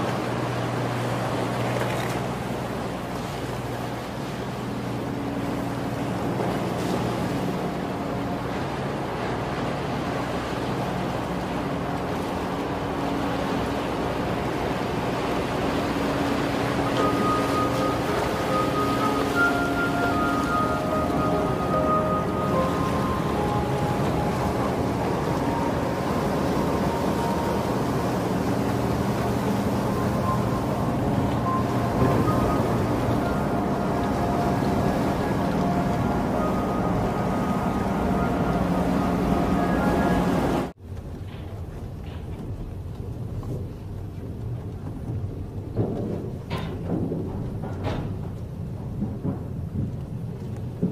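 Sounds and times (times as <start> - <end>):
ferry engines humming: 0.0 - 50.9
water noise: 0.0 - 50.9
wind: 0.0 - 50.9.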